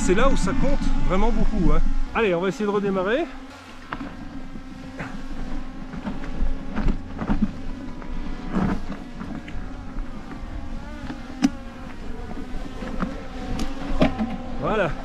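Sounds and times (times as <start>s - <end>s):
drone buzzing: 0.0s - 15.0s.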